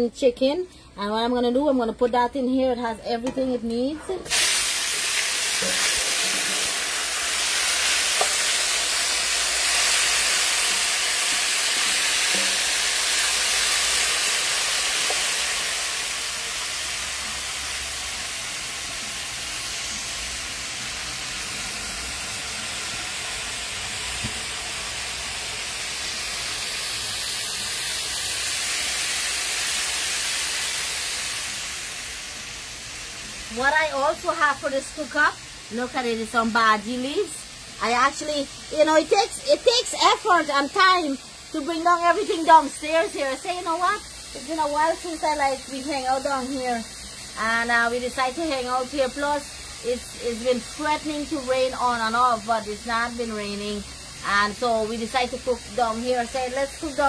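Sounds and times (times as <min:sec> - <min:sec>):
chicken sizzling in hot oil: 0:04.2 - 0:57.0.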